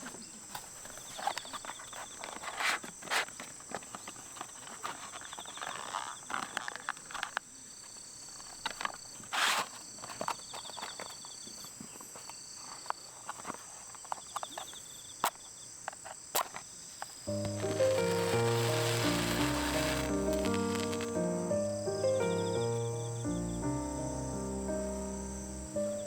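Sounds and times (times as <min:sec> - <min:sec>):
insects chirping and trilling: 0:00.0 - 0:26.0.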